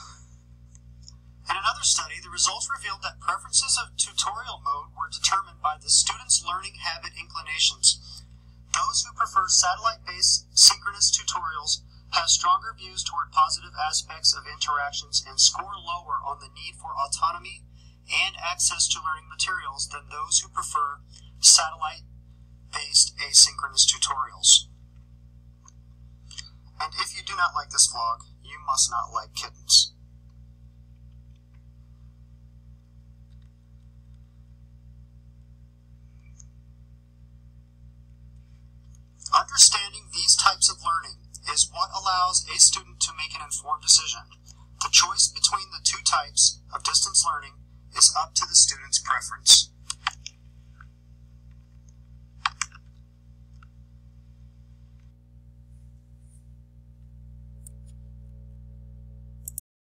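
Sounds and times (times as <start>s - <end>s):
low electrical hum: 0.0s - 59.6s.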